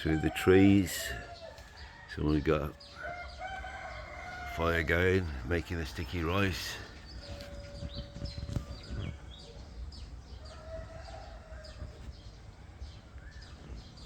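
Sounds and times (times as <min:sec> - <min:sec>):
chickens calling: 0:00.0 - 0:14.0
small birds chirping: 0:00.0 - 0:14.0.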